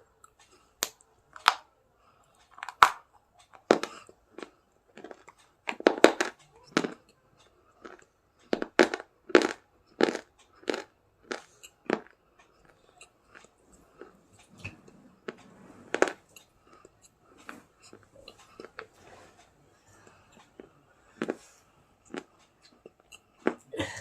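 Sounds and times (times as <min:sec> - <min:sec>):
person chewing crunchy food: 0:02.4 - 0:23.7.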